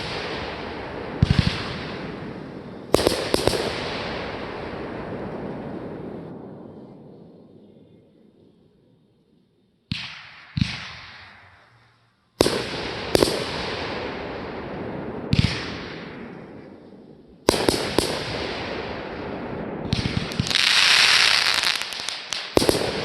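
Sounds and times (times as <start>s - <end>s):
fireworks bangs echoing: 0.0s - 7.4s, 9.9s - 11.6s, 12.4s - 23.0s.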